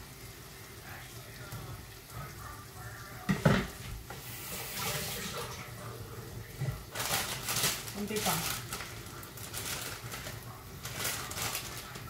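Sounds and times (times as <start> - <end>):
steady sizzle-like hiss: 0.0 - 12.0.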